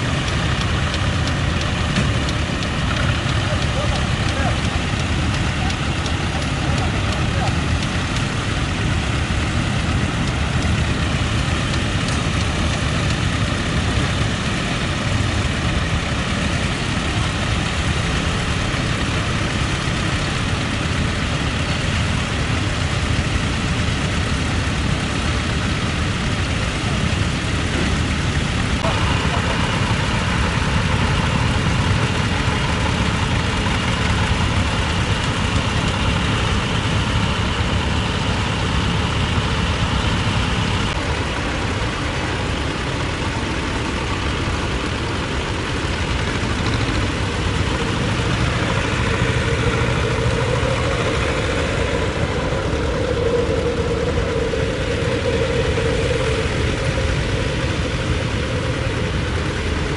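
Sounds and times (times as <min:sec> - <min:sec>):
tractor engines running: 0:00.0 - 0:59.9.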